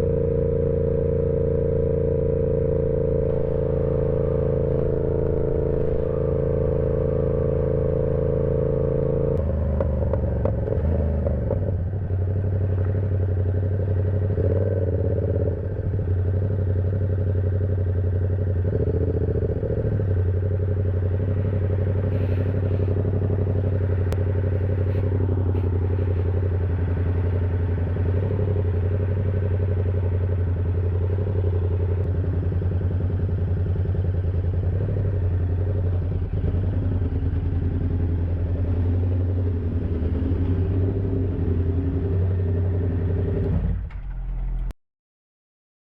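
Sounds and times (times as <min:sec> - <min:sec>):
motorcycle engine and exhaust: 0:00.0 - 0:44.8.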